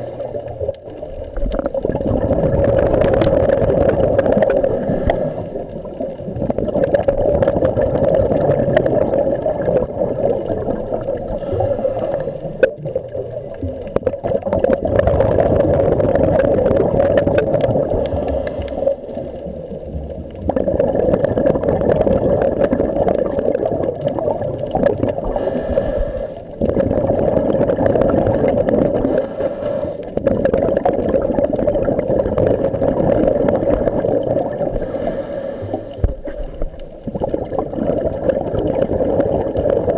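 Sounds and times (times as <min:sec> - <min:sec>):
muffled underwater drone: 0:00.0 - 0:39.9
regulator bubbles rushing: 0:00.0 - 0:39.9.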